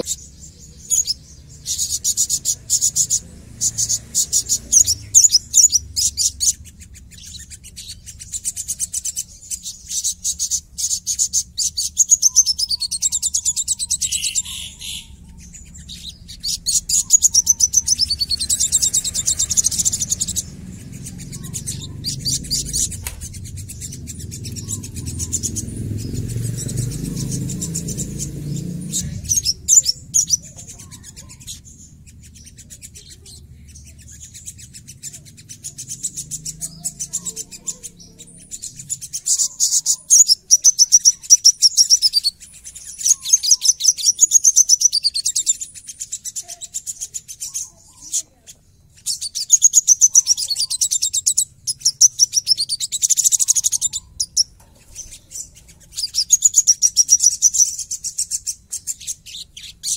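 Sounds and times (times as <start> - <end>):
bird singing high trills: 0.0 - 59.9.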